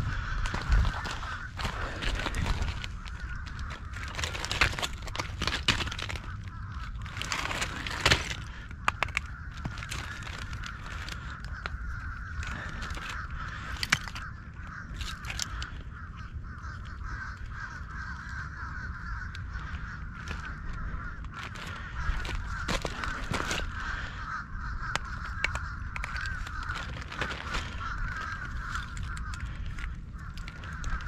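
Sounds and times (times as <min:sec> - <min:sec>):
wind rumble on microphone: 0:00.0 - 0:31.0
oyster shells and rocks clattering: 0:00.4 - 0:31.0.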